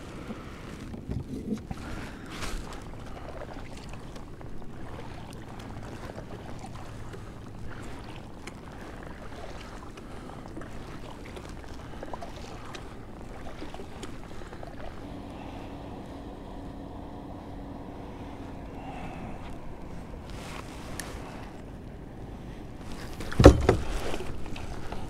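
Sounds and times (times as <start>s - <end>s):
water splashing against kayak hull: 0.0s - 25.0s.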